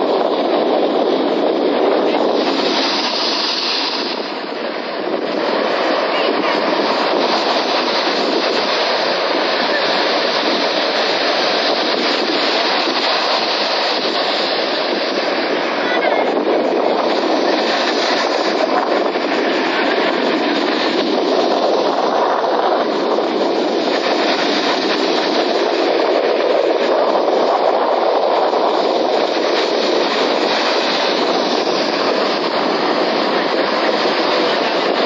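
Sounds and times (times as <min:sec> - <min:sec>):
sea water rushing: 0:00.0 - 0:35.0.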